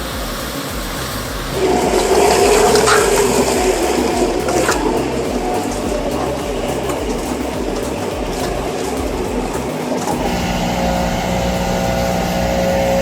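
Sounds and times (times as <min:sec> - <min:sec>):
heavy machinery rumbling and grinding: 0:00.0 - 0:13.0
steady engine drone: 0:00.0 - 0:13.0.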